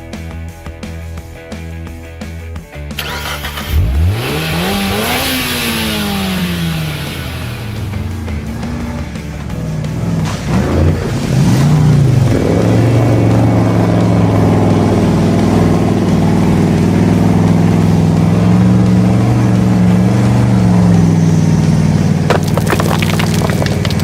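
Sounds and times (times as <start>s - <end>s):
engine droning and revving: 3.0s - 24.0s.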